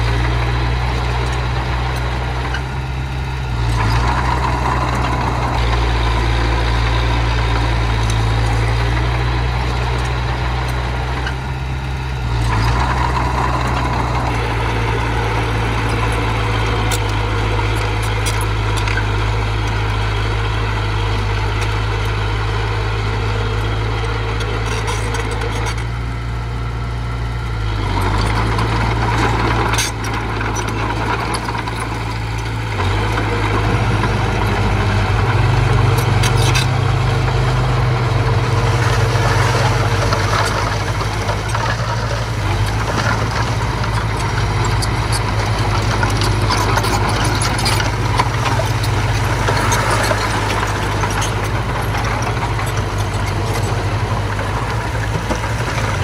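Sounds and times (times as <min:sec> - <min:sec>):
machinery engine droning: 0:00.0 - 0:56.0.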